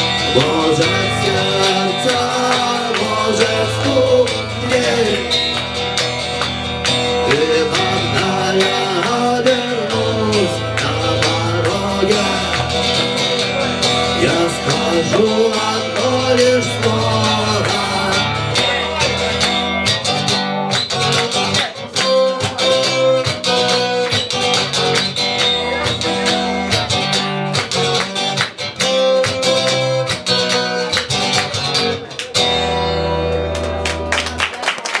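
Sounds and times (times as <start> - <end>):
acoustic guitar strumming chords: 0.0 - 34.1.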